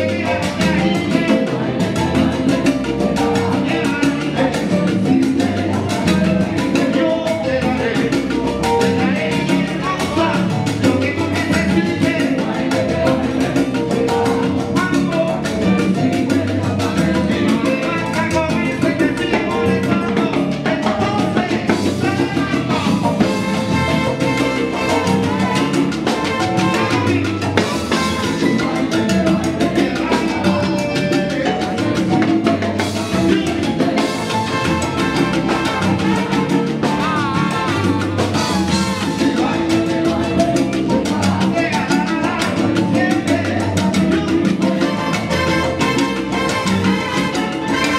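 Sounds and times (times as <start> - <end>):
congas and timbales: 0.0 - 47.9
man singing lead: 0.0 - 47.9
salsa band playing: 0.0 - 47.9.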